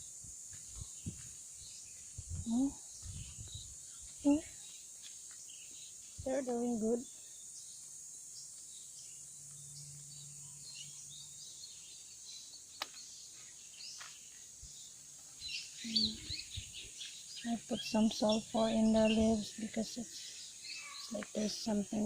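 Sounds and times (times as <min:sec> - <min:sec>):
high insect drone: 0:00.0 - 0:22.0
small birds chirping: 0:00.0 - 0:22.0.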